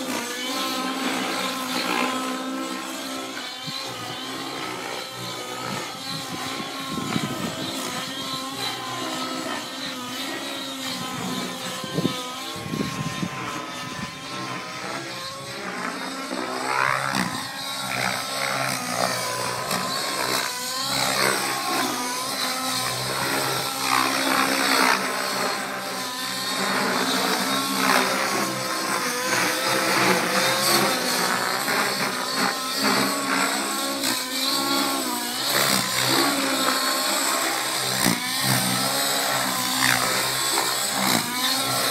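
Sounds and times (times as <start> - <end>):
helicopter rotor: 0.0 - 41.9
model helicopter engine high revs: 0.0 - 41.9.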